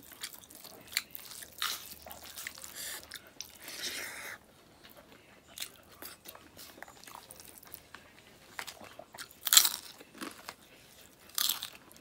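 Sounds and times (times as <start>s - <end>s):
cracker crunching: 0.0s - 12.0s.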